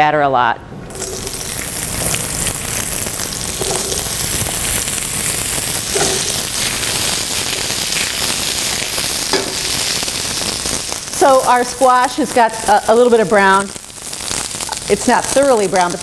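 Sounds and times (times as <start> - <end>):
squash sizzling in oil: 0.9 - 16.0.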